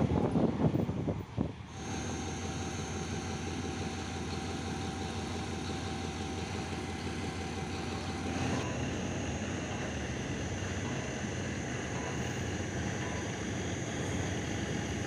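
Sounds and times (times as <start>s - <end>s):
locomotive engine idling: 1.7s - 15.0s
thin steady whine: 1.7s - 15.0s.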